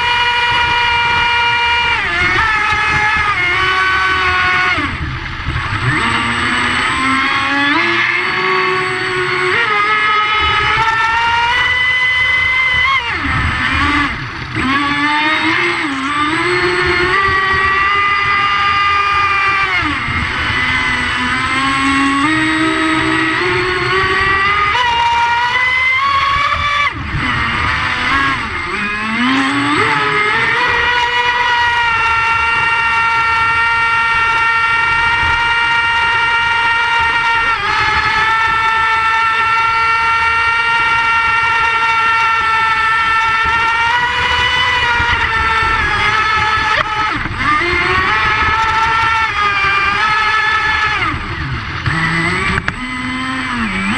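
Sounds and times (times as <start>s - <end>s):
model boat motor whine: 0.0s - 53.9s.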